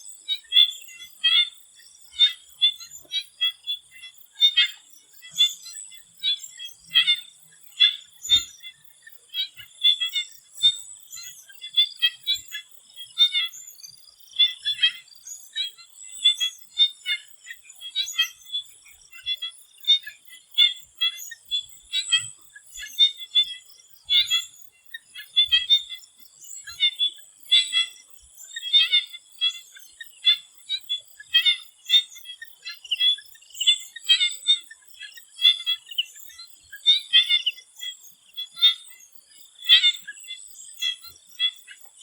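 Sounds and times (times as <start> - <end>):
frogs calling: 0.0 - 42.0.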